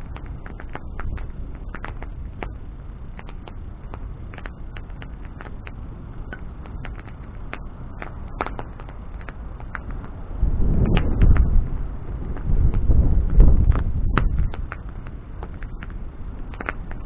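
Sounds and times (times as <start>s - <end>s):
bonfire crackling and popping: 0.0s - 17.0s
low rumble of burning fire: 0.0s - 17.0s.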